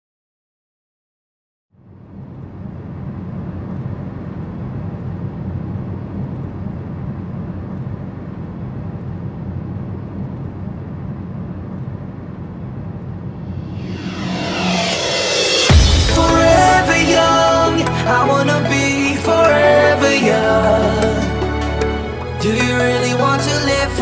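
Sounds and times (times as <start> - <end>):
steady low rumble: 1.8 - 24.0.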